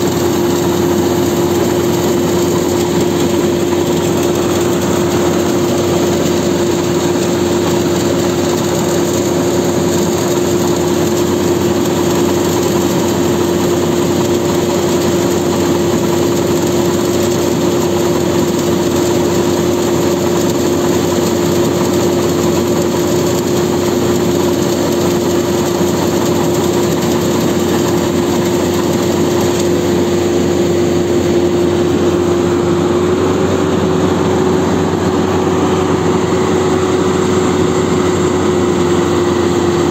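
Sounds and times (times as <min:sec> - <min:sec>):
auger whine: 0:00.0 - 0:39.9
combine harvester running: 0:00.0 - 0:39.9.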